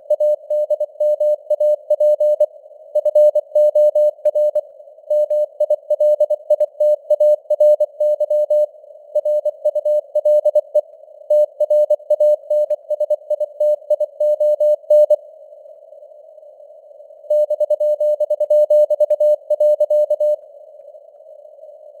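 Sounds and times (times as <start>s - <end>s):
morse code beeps: 0.1s - 15.2s, 17.3s - 20.4s.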